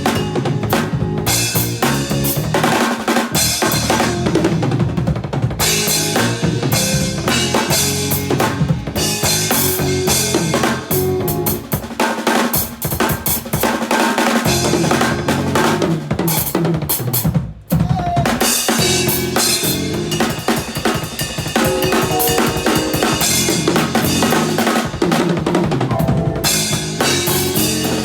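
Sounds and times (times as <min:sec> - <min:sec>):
fast drum kit playing: 0:00.0 - 0:28.0.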